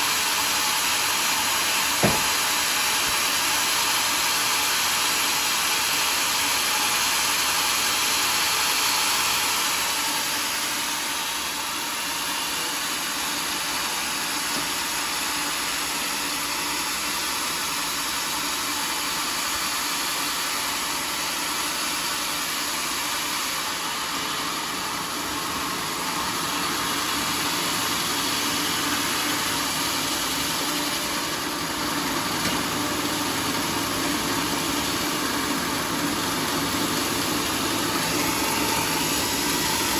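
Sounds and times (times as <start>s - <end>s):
sawmill engine and blade running: 0.0s - 39.9s.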